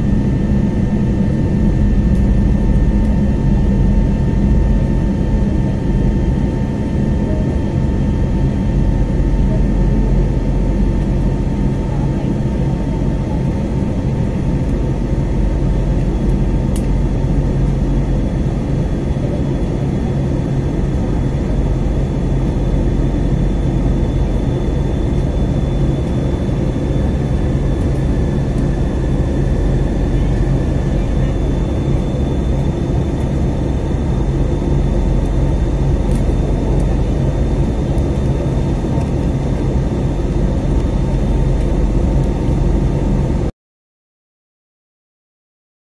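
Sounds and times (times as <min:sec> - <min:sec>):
jet engines rumbling in cabin: 0:00.0 - 0:43.5.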